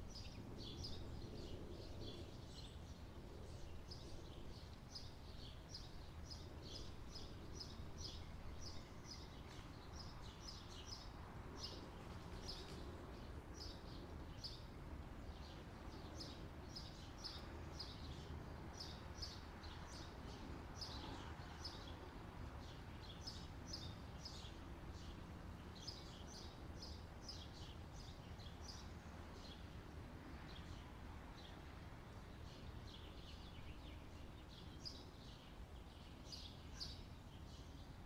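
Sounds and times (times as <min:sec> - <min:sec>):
low background hiss: 0:00.0 - 0:38.0.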